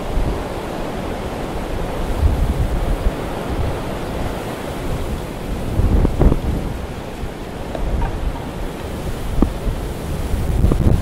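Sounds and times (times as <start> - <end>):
strong wind blowing: 0.0 - 11.0
wind buffeting microphone: 0.0 - 11.0.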